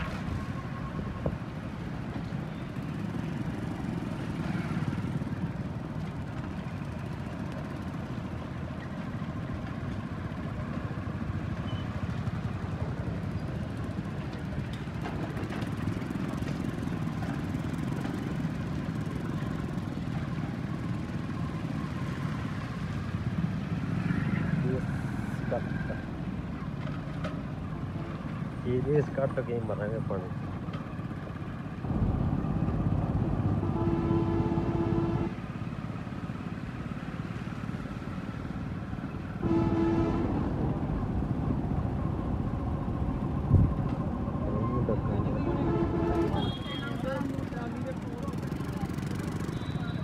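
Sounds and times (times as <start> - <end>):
motorcycle engines droning: 0.0 - 50.0
road noise: 0.0 - 50.0.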